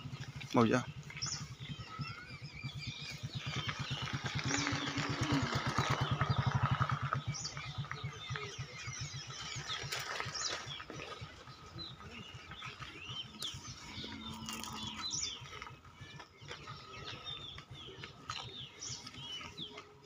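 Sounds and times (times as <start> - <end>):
bird chirps: 0.0 - 20.0
motorcycle engine running: 0.0 - 20.0.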